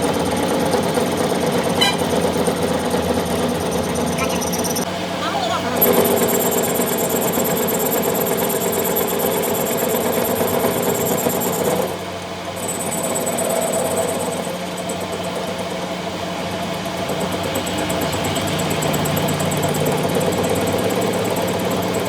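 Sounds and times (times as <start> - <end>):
machine running: 0.0 - 22.0.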